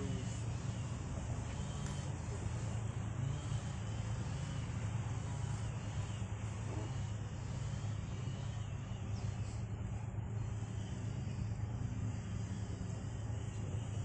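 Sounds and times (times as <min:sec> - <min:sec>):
boat motor droning: 0:00.0 - 0:14.0.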